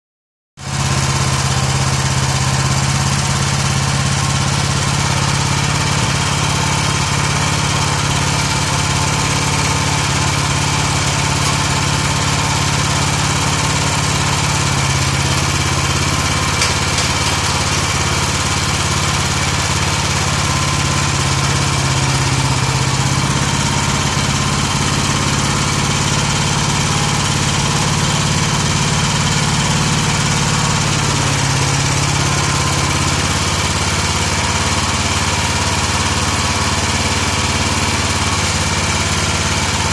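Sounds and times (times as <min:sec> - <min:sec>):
petrol engine running steadily: 0:00.6 - 0:39.9.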